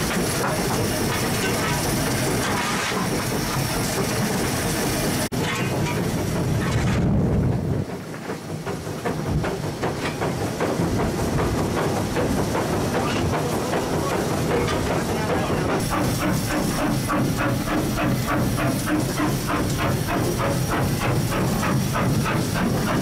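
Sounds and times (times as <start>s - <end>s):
steam hiss: 0.0s - 6.8s, 7.8s - 23.0s
steam locomotive clatter and rumble: 0.0s - 23.0s
wheels clicking over rail joints: 0.0s - 23.0s.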